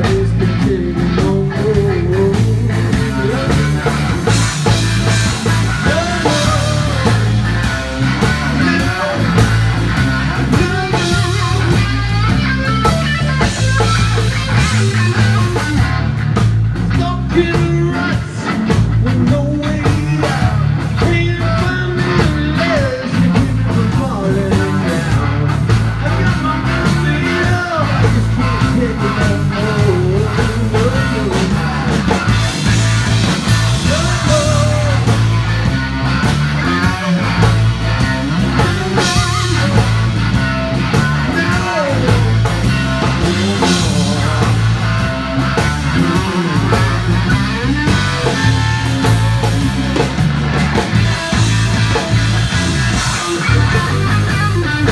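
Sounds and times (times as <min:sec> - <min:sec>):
bass guitar: 0:00.0 - 0:54.9
drums: 0:00.0 - 0:54.9
electric guitar lead: 0:00.0 - 0:54.9.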